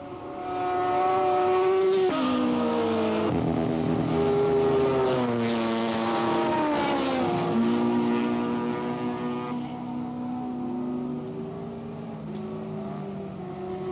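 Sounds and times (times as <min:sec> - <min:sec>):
racing motorcycle engines revving: 0:00.0 - 0:13.9.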